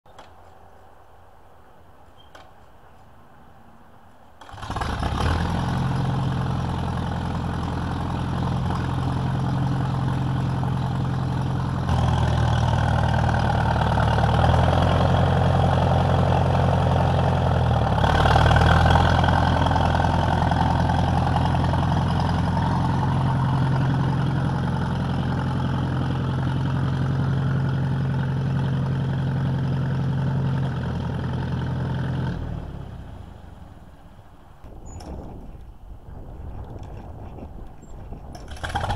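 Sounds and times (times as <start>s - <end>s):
tractor engine running: 4.4s - 38.9s.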